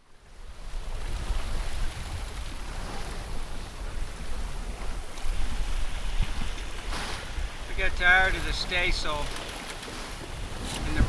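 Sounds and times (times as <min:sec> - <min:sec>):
wind and sea rushing: 0:00.0 - 0:11.0
wind buffeting microphone: 0:00.0 - 0:11.0.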